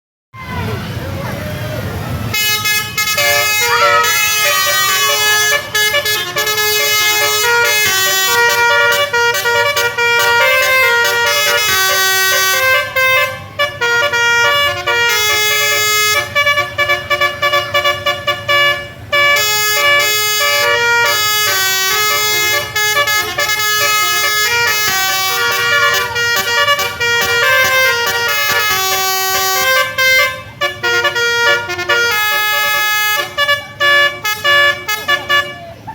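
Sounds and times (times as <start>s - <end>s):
musical air horn playing a tune: 2.3s - 35.7s.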